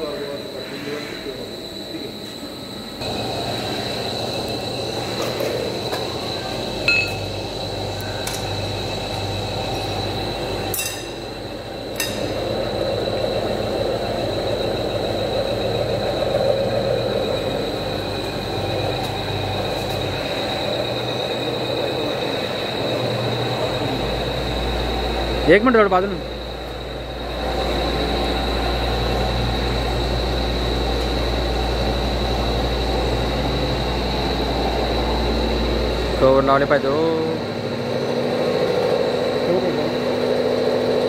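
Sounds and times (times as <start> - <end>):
machine motor whine and hum: 0.0 - 41.0.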